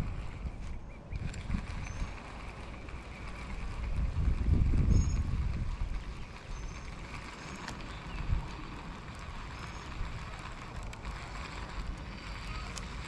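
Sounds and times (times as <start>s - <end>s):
fishing reel winding: 0.0s - 13.0s
small clicks: 0.0s - 13.0s
wind rumbling on microphone: 0.0s - 13.0s.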